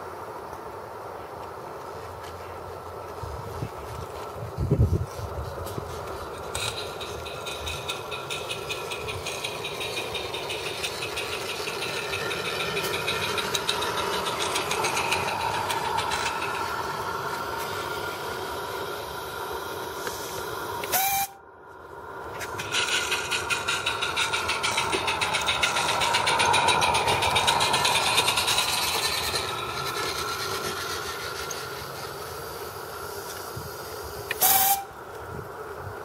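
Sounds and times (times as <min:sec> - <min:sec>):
steam locomotive ticking rattle: 0:03.4 - 0:21.3, 0:21.9 - 0:36.0.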